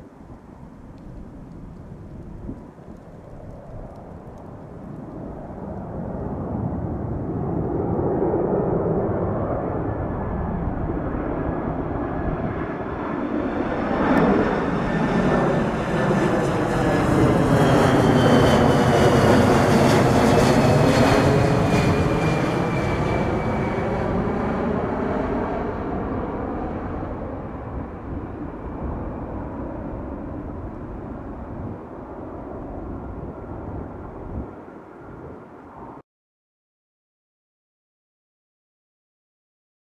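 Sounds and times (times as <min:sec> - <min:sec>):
jet airliner passing overhead: 0:00.0 - 0:36.0.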